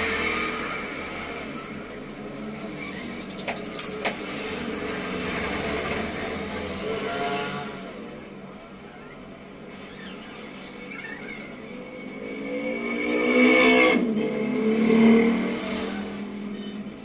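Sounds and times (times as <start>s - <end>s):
motorbike passing: 0.0s - 8.4s, 9.8s - 17.0s
vehicle engines running: 0.0s - 17.0s.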